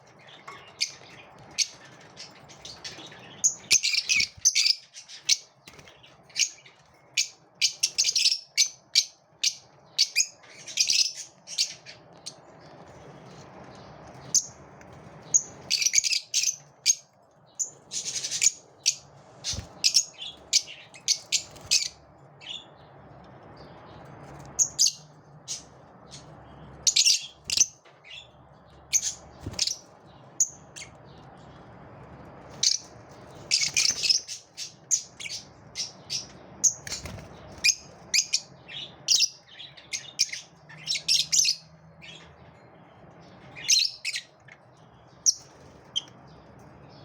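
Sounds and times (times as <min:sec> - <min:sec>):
lovebirds chirping and squawking: 0:00.0 - 0:47.0.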